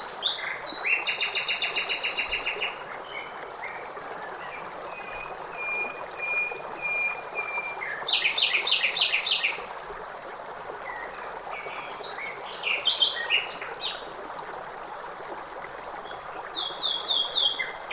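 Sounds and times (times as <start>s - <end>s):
stream rushing: 0.0s - 17.9s.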